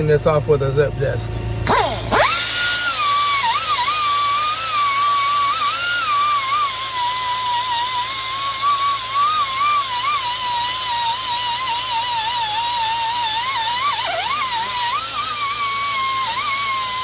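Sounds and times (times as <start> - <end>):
pneumatic grinder whining: 0.0 - 17.0.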